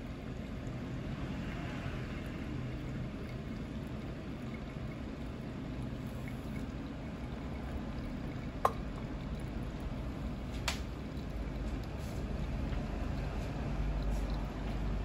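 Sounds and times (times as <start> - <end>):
low steady hum: 0.0 - 15.0
water pouring onto coffee grounds: 0.0 - 15.0.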